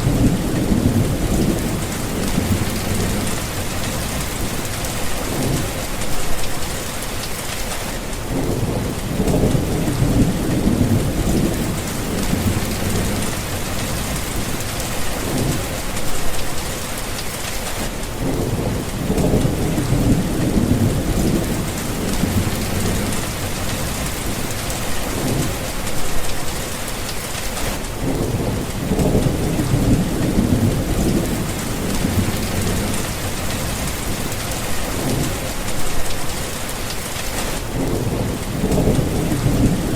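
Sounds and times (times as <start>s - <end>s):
thunder rumbling: 0.0s - 6.7s, 8.2s - 16.8s, 18.1s - 39.9s
rain falling: 0.0s - 39.9s.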